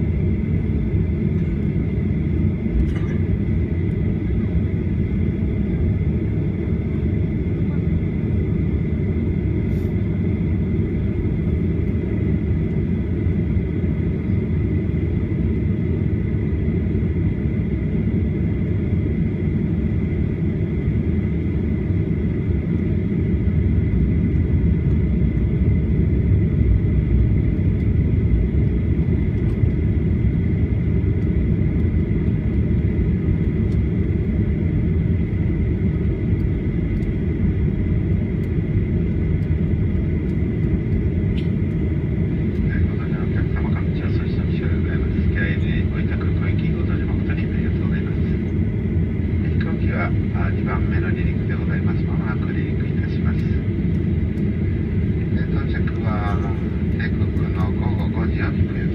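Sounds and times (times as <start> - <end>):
airplane cabin rumble: 0.0 - 58.9.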